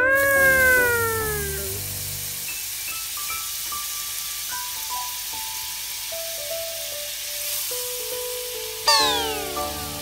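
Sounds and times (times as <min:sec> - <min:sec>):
butter sizzling in frying pan: 0:00.2 - 0:10.0
simple background melody: 0:00.5 - 0:10.0.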